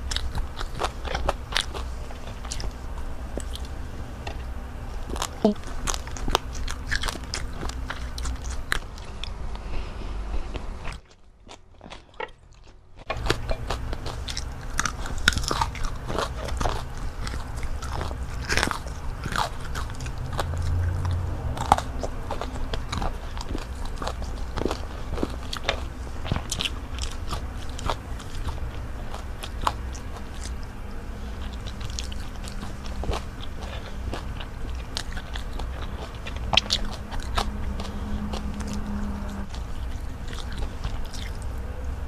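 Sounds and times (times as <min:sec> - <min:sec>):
crunchy bites and chewing: 0:00.0 - 0:42.0.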